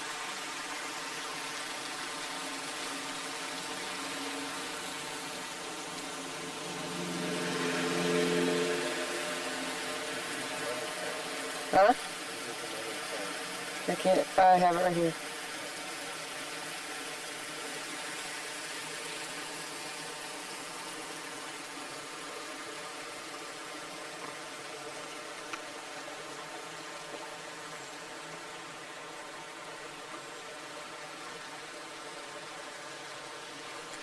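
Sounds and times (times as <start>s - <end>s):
flowing water rushing: 0.0s - 34.0s.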